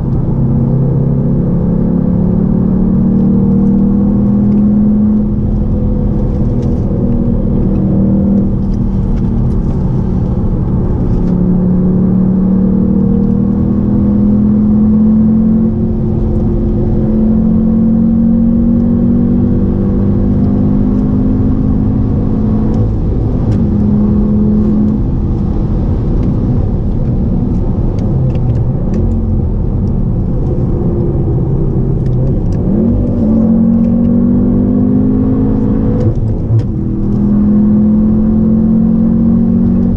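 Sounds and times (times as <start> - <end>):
car engine accelerating: 0.0 - 39.9
road rumble: 0.0 - 39.9.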